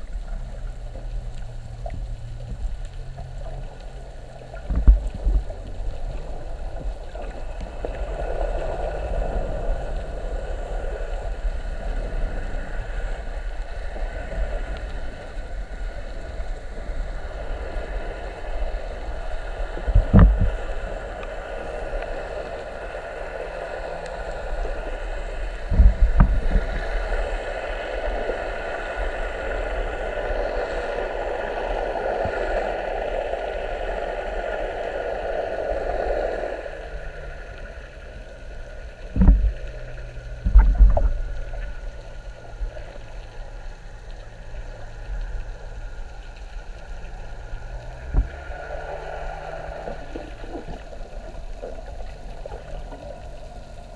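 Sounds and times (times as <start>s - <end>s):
faint whine underwater: 0.0s - 53.9s
underwater hum and water noise: 0.0s - 53.9s.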